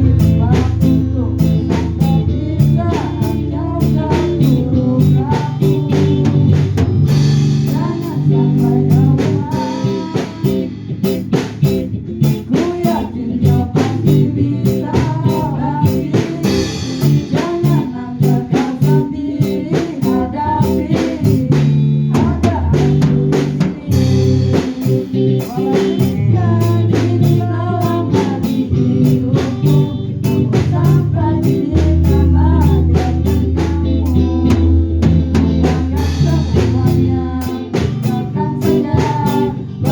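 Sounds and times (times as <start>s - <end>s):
song with guitar drums and bass: 0.0s - 39.9s.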